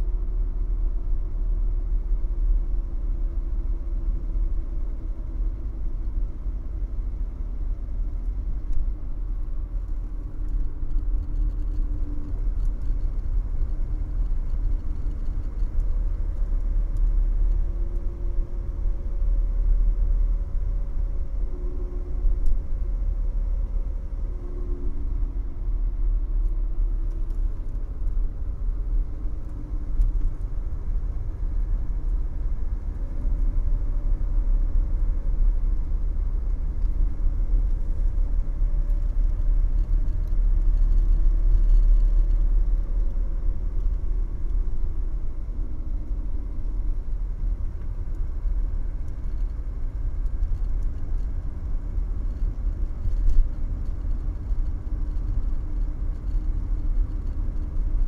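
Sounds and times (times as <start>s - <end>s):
diesel engine drone in cabin: 0.0s - 58.0s.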